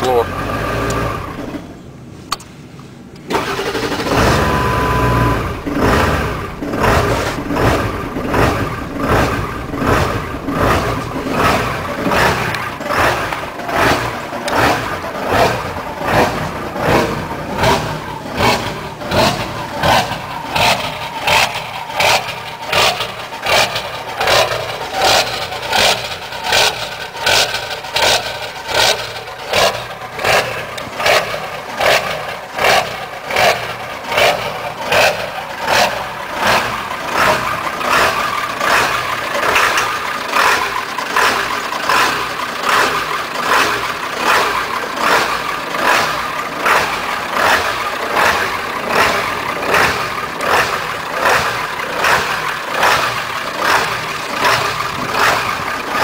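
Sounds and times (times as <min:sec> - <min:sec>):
diesel engine surging idle: 0:00.0 - 0:56.0.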